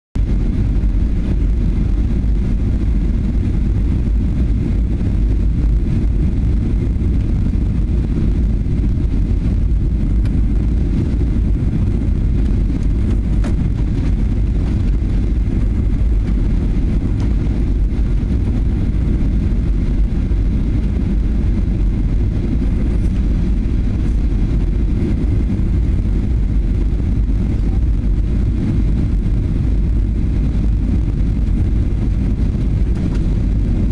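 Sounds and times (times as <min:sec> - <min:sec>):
airliner cabin engine rumble: 0:00.2 - 0:33.9.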